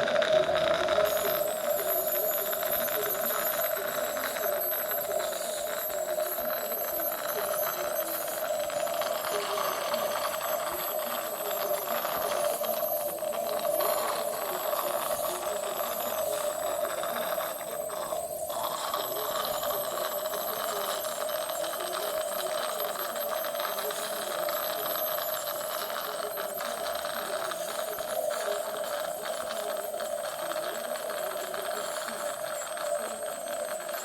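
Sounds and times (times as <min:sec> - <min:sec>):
constant equipment hum: 0:00.0 - 0:34.0.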